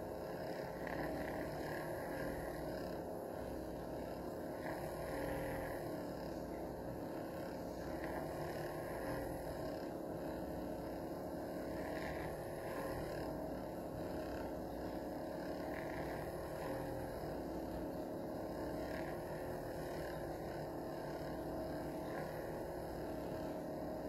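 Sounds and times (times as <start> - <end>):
milk frother motor humming: 0.0 - 24.0.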